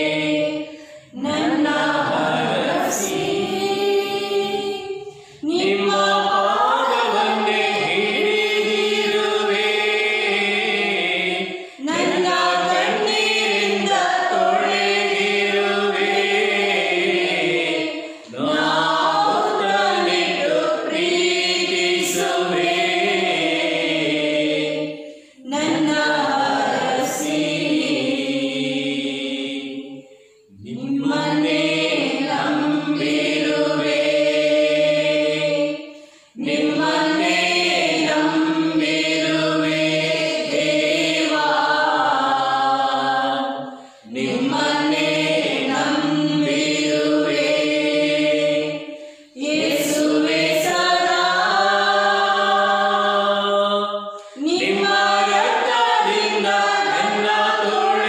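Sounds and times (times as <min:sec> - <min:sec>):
voices singing a hymn: 0:00.0 - 0:58.0.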